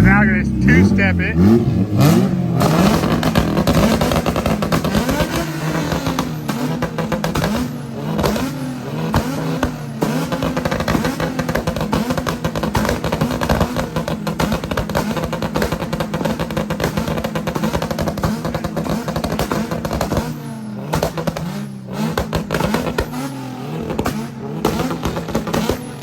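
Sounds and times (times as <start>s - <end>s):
exhaust crackling pops: 0.0s - 23.2s, 23.9s - 26.0s
car engine on launch limiter: 0.0s - 26.0s.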